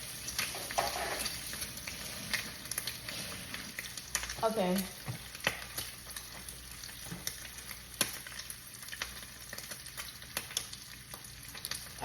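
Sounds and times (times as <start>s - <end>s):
bacon sizzling in a pan: 0.0s - 12.0s
grease popping: 0.0s - 12.0s.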